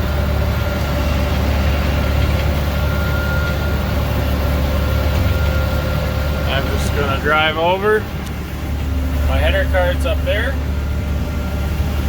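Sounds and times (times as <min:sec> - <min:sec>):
harvester engine rumble: 0:00.0 - 0:12.0.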